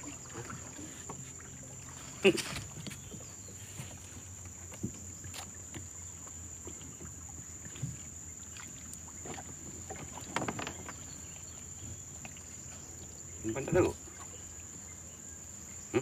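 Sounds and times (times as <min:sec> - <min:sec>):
small water splashes: 0:00.0 - 0:15.1
quiet river ambience: 0:00.0 - 0:16.0.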